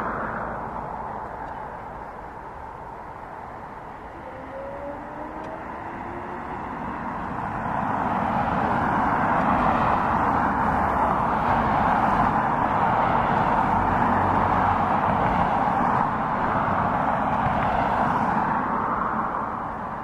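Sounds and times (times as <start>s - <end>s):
jet engines whine and rumble: 0.0s - 20.0s.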